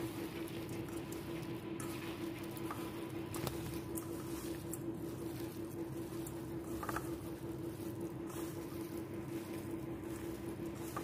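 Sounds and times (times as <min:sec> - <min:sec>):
hand squelching minced meat: 0:00.0 - 0:11.0
steady hum: 0:00.0 - 0:11.0.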